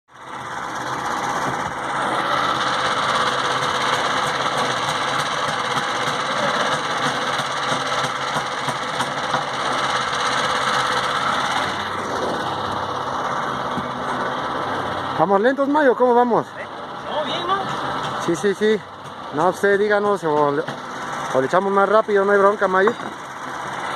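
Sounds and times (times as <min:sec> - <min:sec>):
engine running with rattle: 0:00.1 - 0:23.9.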